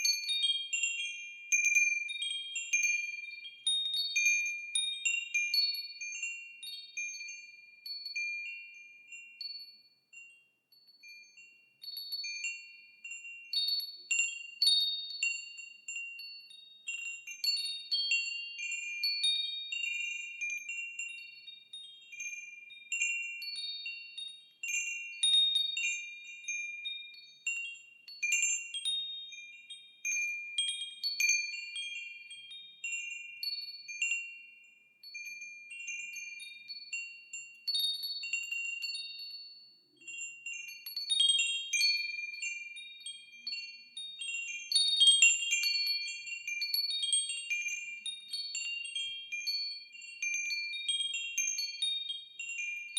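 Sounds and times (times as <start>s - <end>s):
wind chimes ringing: 0.0s - 52.9s.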